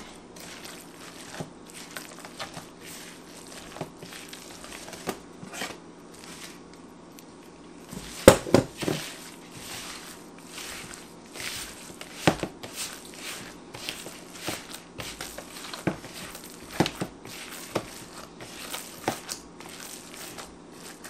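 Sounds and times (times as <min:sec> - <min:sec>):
hands squishing ground meat: 0:00.0 - 0:21.0.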